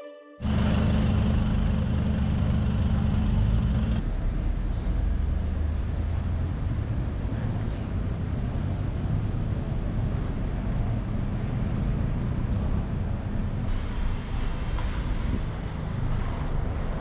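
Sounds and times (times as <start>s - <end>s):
traffic rumble: 0.4s - 17.0s.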